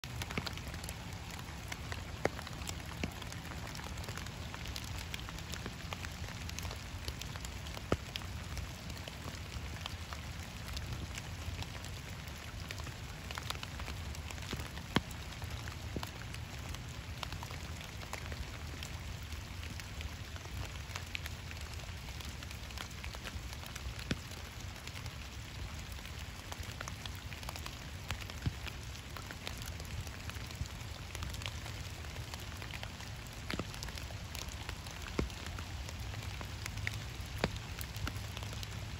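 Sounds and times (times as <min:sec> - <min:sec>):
rain pattering on pond: 0:00.0 - 0:38.9.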